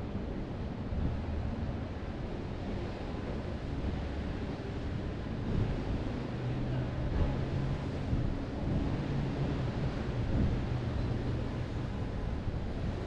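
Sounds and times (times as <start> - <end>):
wind rumbling on microphone: 0.0 - 13.0
city street traffic: 2.3 - 13.0.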